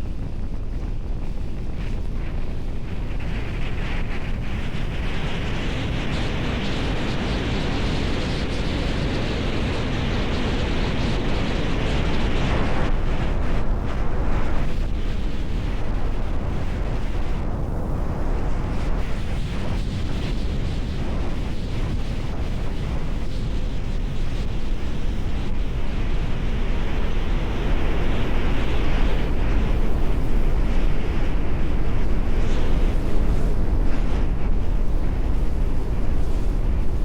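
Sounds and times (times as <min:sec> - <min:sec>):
bright rushing wind: 0:00.0 - 0:37.0
wind buffeting microphone: 0:00.0 - 0:37.0.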